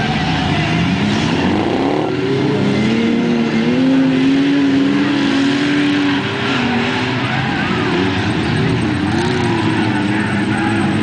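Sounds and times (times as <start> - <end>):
engine revving: 0.0 - 11.0
racing car engines: 0.0 - 11.0.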